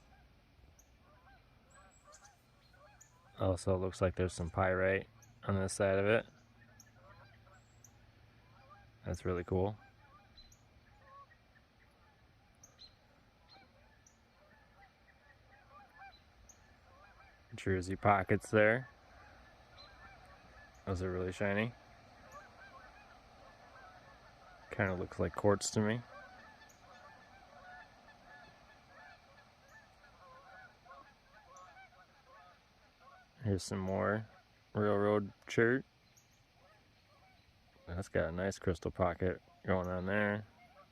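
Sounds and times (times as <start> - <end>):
faint bird calls: 0.0 - 40.9.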